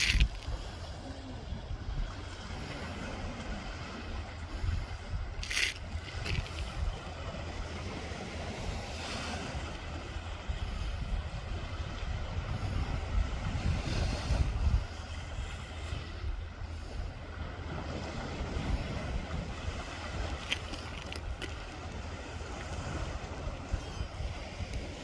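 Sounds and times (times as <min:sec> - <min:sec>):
sea surf on shore: 0:00.0 - 0:25.0
wind buffeting microphone: 0:00.0 - 0:25.0.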